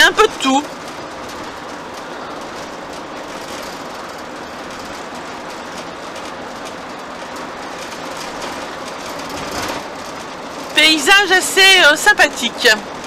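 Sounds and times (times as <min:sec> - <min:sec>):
road noise inside a vehicle cab: 0:00.0 - 0:13.0.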